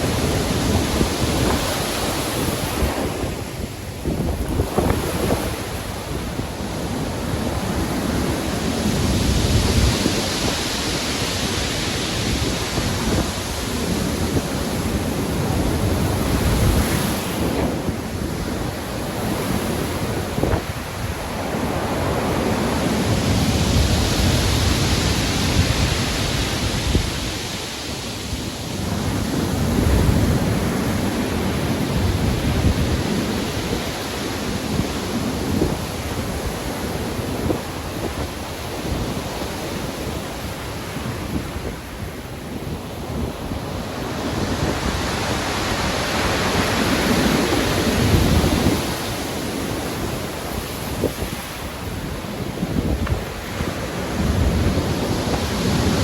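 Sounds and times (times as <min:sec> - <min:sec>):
heavy surf breaking: 0:00.0 - 0:56.0
wind: 0:00.0 - 0:56.0.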